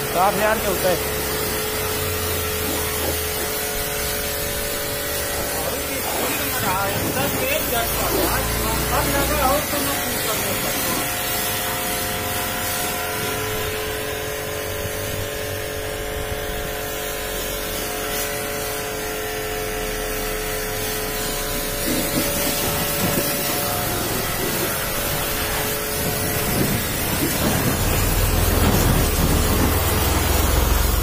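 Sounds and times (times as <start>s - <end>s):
pressure washer humming: 0.0s - 31.0s
water jet spraying on car: 0.0s - 31.0s.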